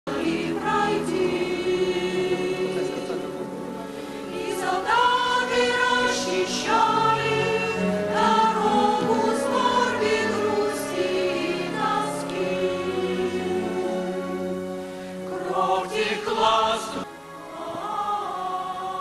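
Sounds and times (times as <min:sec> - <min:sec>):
choir singing held notes: 0:00.1 - 0:19.0.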